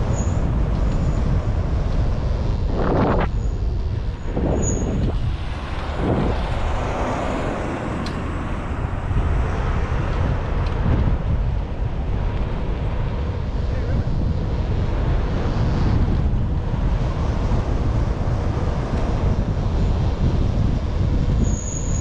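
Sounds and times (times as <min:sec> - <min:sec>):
tyre and road noise: 0:00.0 - 0:22.0
wind buffeting microphone: 0:00.0 - 0:22.0.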